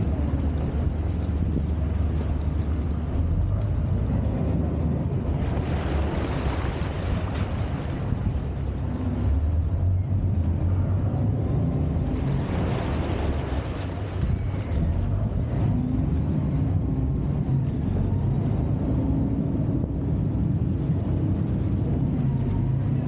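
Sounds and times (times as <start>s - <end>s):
boat engine humming: 0.0s - 23.0s
wind and water rushing: 0.0s - 23.0s.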